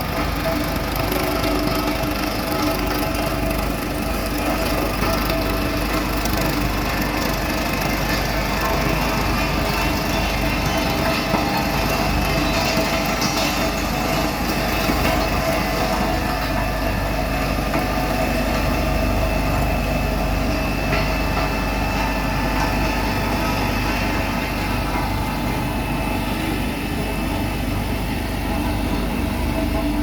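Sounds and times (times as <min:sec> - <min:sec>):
road roller diesel engine running: 0:00.0 - 0:30.0.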